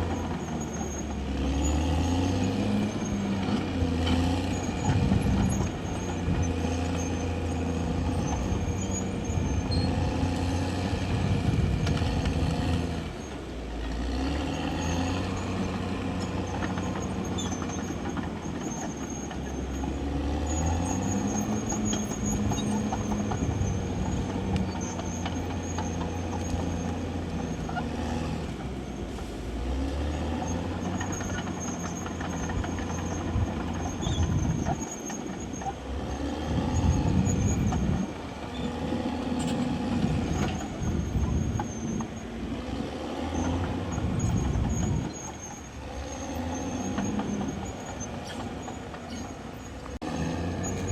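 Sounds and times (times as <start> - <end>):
bulldozer diesel engine working: 0.0 - 50.9.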